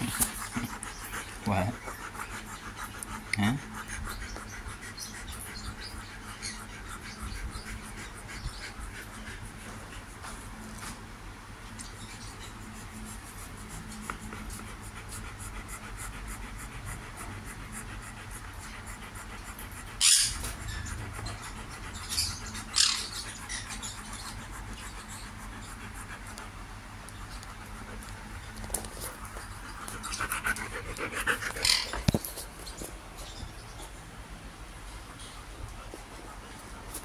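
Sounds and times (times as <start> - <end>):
dog panting: 0.0 - 11.1, 11.9 - 34.1.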